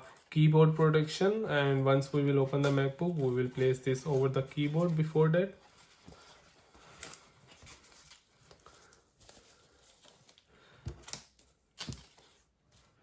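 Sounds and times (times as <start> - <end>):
handling of packaging with gloves: 0.0 - 13.0.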